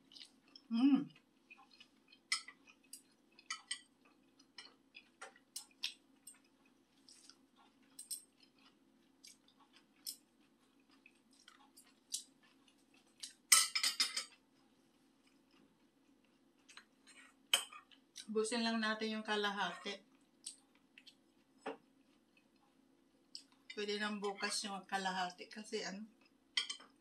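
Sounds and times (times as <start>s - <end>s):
person chewing: 0.0s - 18.3s, 20.0s - 23.8s
faint steady hum: 0.0s - 27.0s.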